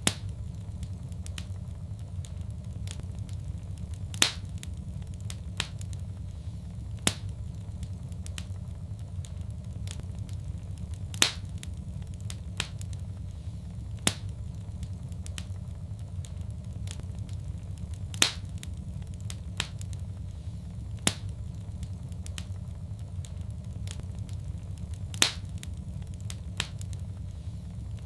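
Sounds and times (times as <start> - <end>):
low rumble: 0.0 - 28.0
wood fire crackling: 0.0 - 28.0.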